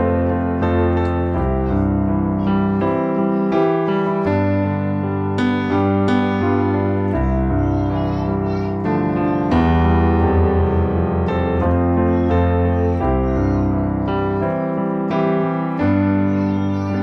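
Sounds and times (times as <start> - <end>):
piano chords over deep bass: 0.0 - 17.0.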